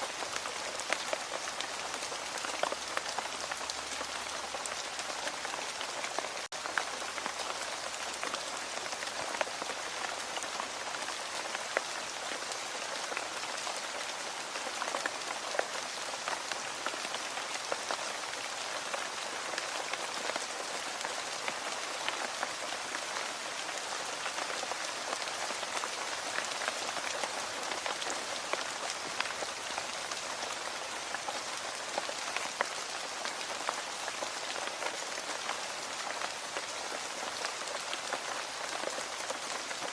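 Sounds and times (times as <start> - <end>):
rain on hard surface: 0.0 - 39.9.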